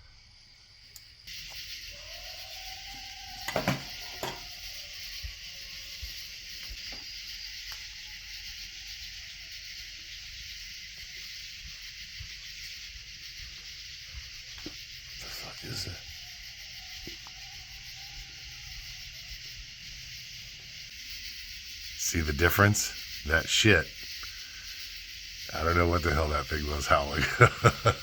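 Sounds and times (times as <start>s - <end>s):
distant coyotes howling: 0.0s - 28.0s
night insects chorus: 0.0s - 28.0s.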